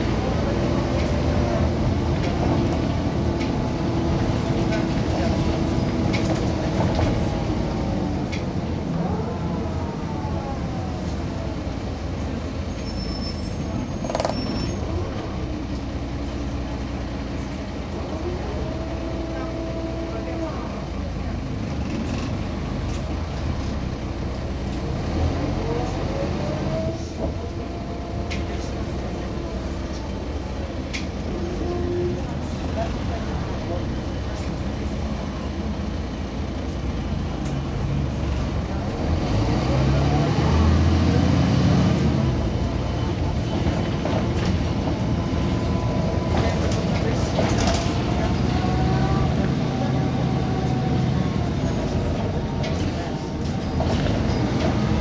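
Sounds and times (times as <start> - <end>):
bus engine rumble: 0.0 - 55.0
road noise: 0.0 - 55.0.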